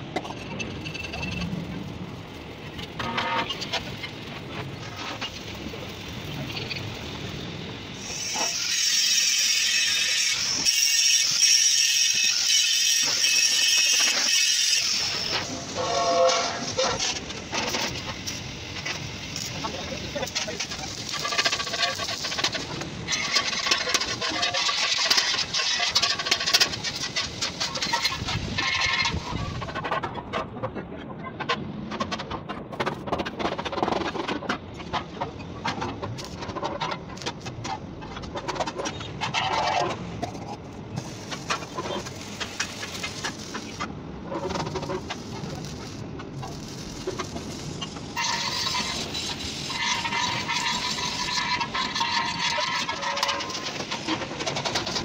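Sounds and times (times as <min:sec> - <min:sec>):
arc welding crackling: 0:00.2 - 0:29.9, 0:35.6 - 0:55.0.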